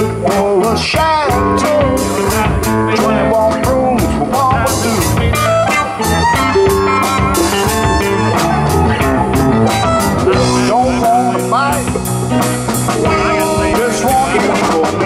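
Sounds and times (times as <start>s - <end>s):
bass guitar: 0.0s - 15.0s
electric guitars with bent notes: 0.0s - 15.0s
steady drum beat: 0.0s - 15.0s.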